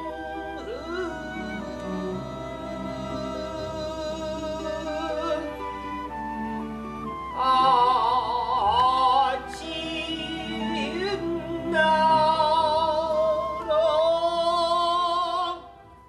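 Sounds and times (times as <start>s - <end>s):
person singing with vibrato: 0.0s - 6.0s, 7.3s - 15.8s
instrumental accompaniment: 0.0s - 16.0s.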